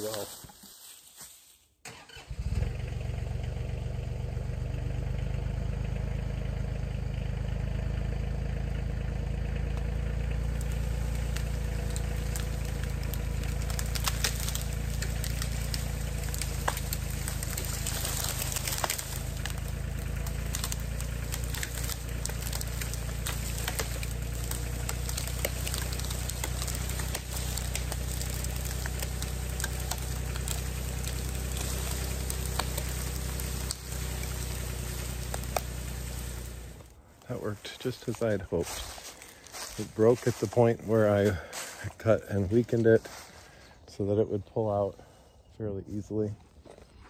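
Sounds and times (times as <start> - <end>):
branches crackling and snapping: 0.0 - 45.3, 46.0 - 47.0
tractor diesel engine running: 1.9 - 44.9.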